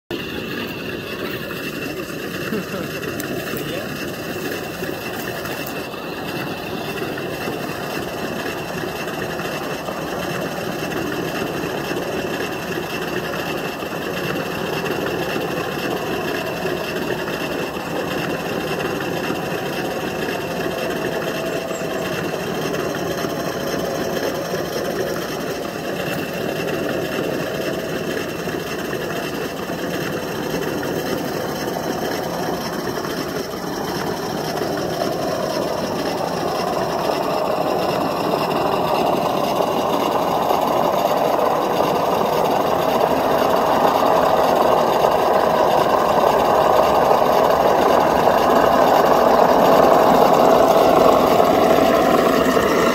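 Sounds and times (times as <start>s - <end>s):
toy truck motors whirring: 0.1s - 52.9s.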